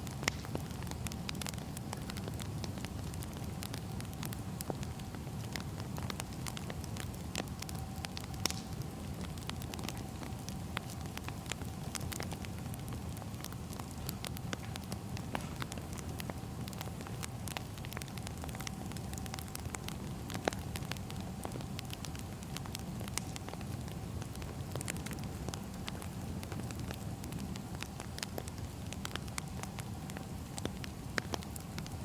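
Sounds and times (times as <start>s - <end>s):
faint steady hum: 0.0s - 32.0s
wood fire crackling: 0.0s - 32.0s.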